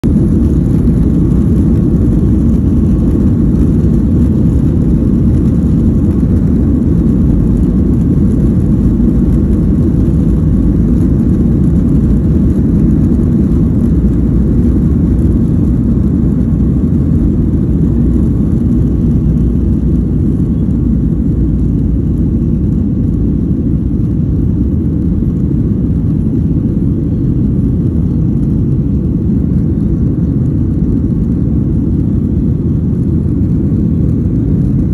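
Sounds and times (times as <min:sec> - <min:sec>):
jet engines rumbling in cabin: 0:00.0 - 0:34.9.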